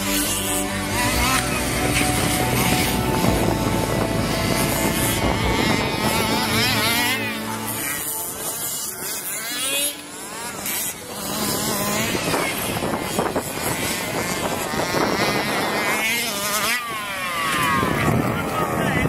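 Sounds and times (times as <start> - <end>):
small two-stroke engines revving: 0.0 - 19.0.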